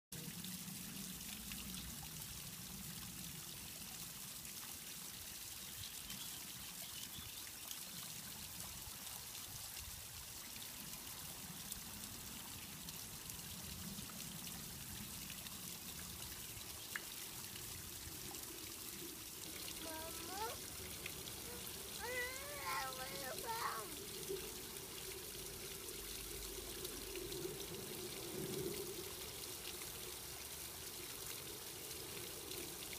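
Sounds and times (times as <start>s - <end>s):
waterfall trickling over stones: 0.1s - 32.9s.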